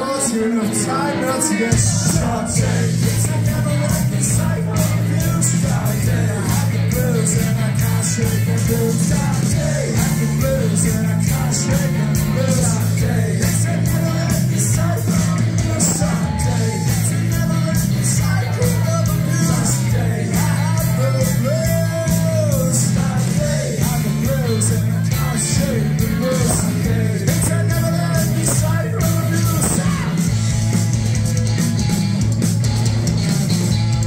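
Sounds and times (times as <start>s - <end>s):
electric guitars: 0.0s - 34.0s
heavy bass line: 0.0s - 34.0s
drums with cymbal hits: 1.7s - 34.0s.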